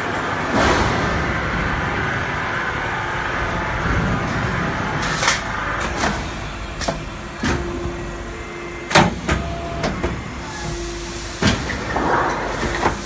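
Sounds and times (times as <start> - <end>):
steady machine noise: 0.0 - 13.0
motor tone: 1.2 - 12.5.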